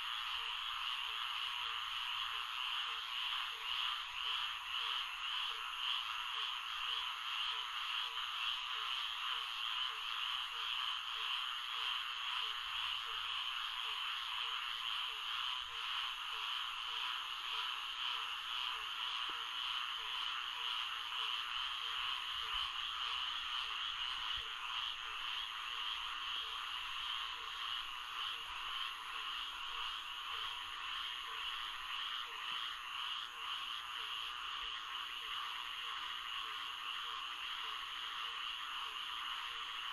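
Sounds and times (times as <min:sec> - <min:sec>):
chorus of frogs: 0:00.0 - 0:39.9.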